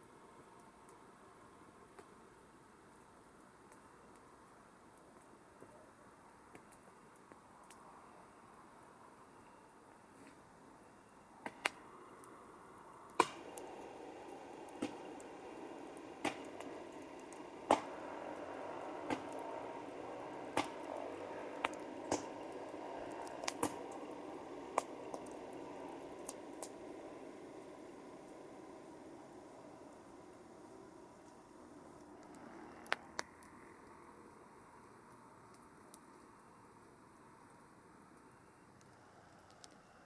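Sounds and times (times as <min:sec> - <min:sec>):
campfire hissing and crackling: 0:00.0 - 0:40.0.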